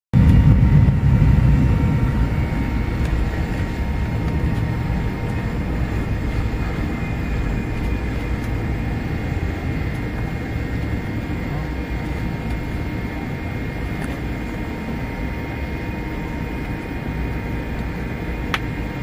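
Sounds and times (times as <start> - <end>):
jet engine low rumble: 0.1 - 19.0
faint engine whine: 0.2 - 19.0.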